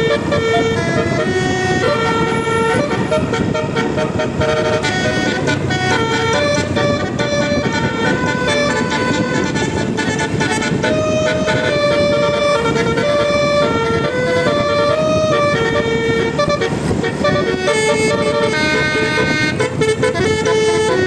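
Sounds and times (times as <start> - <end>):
multi-tone bus air horn melody: 0.0 - 21.0
noisy rumble: 0.0 - 21.0.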